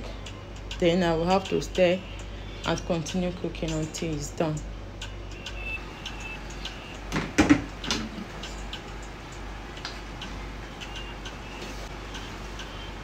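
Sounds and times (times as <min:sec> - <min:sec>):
steady low hum: 0:00.0 - 0:13.0
light regular ticks: 0:00.2 - 0:07.1, 0:08.4 - 0:12.8.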